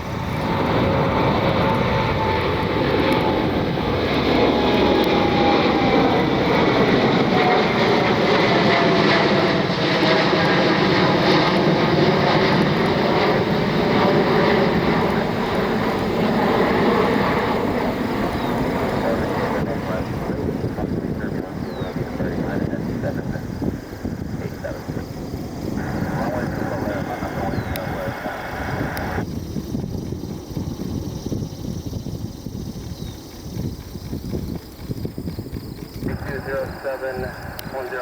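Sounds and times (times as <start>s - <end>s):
thin descending whine: 0.0s - 33.3s, 36.0s - 38.0s
jet engines at takeoff: 0.0s - 38.0s.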